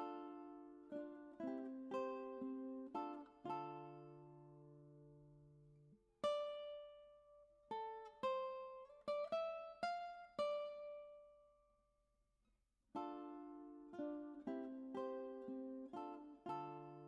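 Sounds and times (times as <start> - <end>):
plucked string instrument: 0.0 - 11.6, 12.9 - 17.0.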